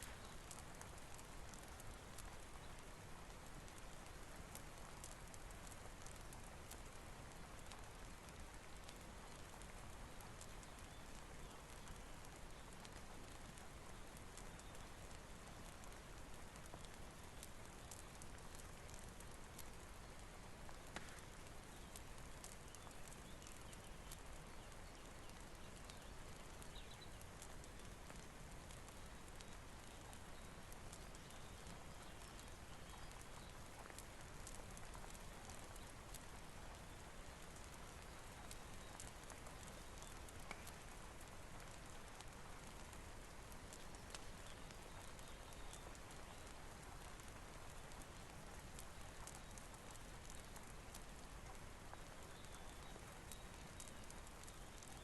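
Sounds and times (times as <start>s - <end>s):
faint rain: 0.0s - 55.0s
fireplace crackling: 0.0s - 55.0s.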